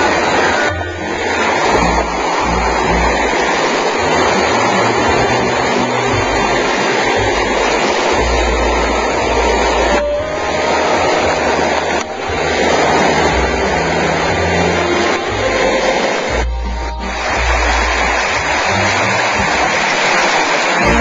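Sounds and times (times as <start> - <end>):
low rumble: 0.0 - 19.8
water rushing over rocks: 0.0 - 21.0.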